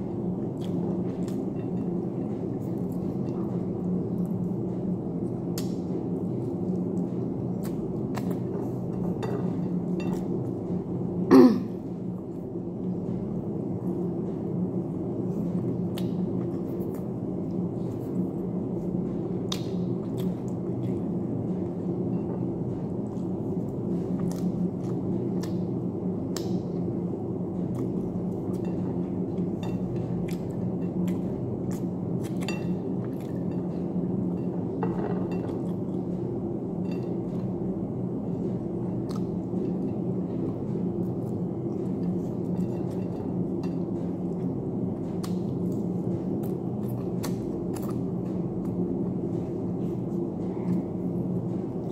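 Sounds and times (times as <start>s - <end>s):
steady low hum: 0.0s - 51.9s
chewing clicks and smacks: 0.4s - 10.8s, 15.4s - 27.0s, 27.6s - 36.2s, 38.9s - 51.9s.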